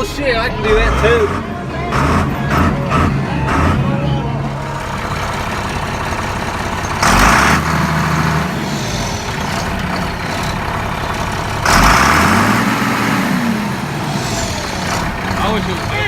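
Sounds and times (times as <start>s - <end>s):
utility vehicle engine revving: 0.0s - 16.0s.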